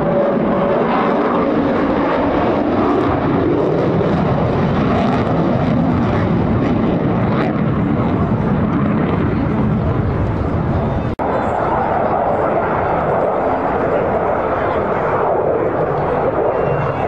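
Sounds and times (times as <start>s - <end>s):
jet flying past low: 0.0s - 17.0s.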